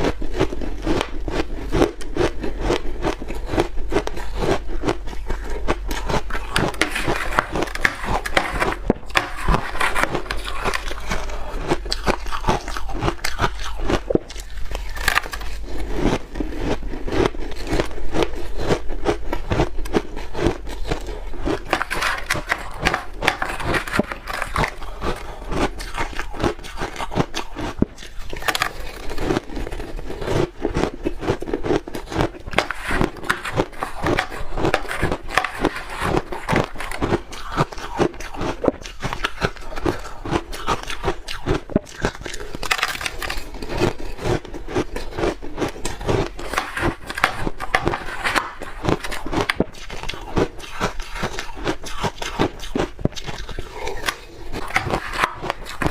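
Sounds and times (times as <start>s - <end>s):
ice crunching in mouth: 0.0s - 55.9s.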